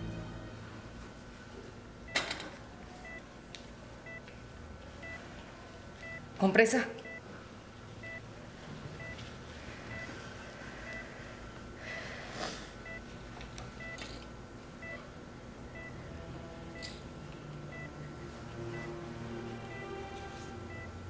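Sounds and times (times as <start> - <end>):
patient monitor beeping: 0.4 - 12.1, 12.7 - 15.1, 15.7 - 21.0.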